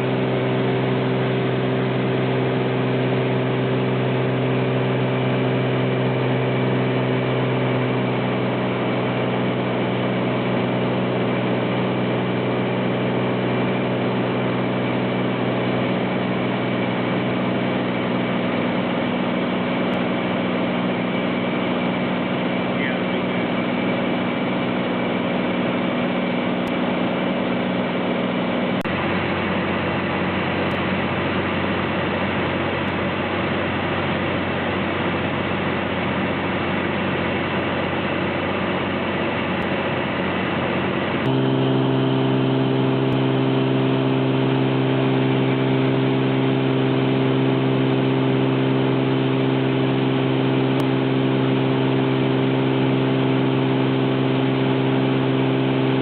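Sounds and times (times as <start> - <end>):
propeller airplane engine droning: 0.0 - 56.0.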